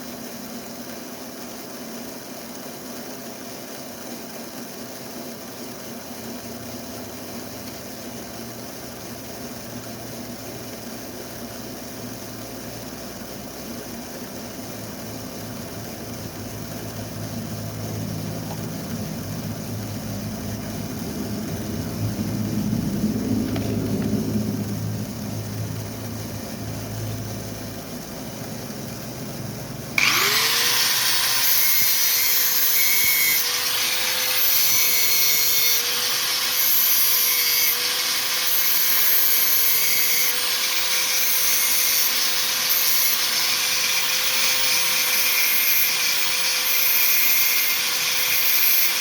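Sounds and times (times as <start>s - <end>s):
toy truck motor and gearbox hum: 0.0s - 49.0s.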